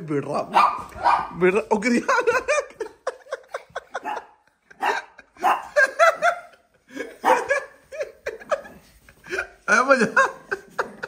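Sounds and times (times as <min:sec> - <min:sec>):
men laughing: 0:01.9 - 0:11.0.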